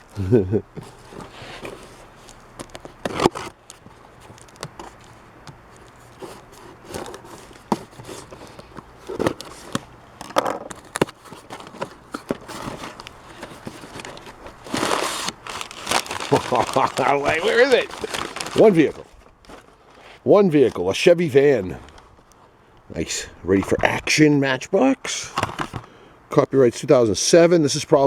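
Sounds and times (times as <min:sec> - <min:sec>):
mail packaging rustling and crinkling: 0:00.0 - 0:22.4, 0:25.3 - 0:26.0.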